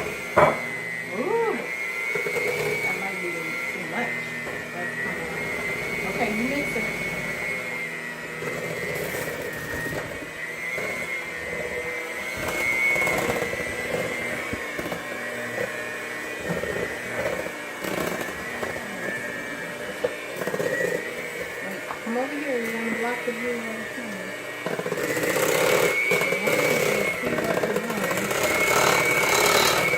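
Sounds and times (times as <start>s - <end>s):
electric mixer whining: 0.0s - 29.9s.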